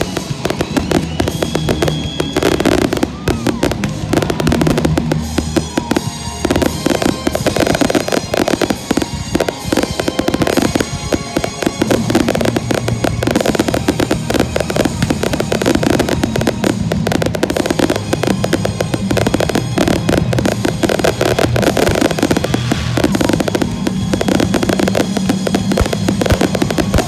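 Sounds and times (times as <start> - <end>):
fireworks bursting in a barrage: 0.0 - 27.0
music soundtrack: 0.0 - 27.0.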